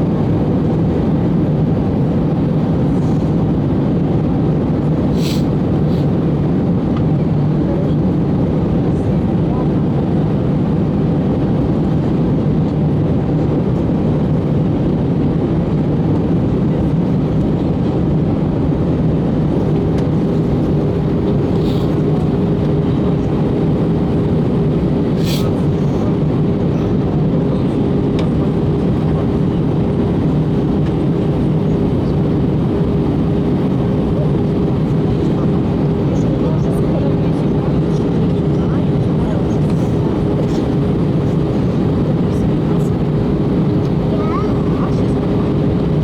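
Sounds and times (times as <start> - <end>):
airliner engine and airflow rush: 0.0 - 46.0
steady hum: 0.0 - 46.0.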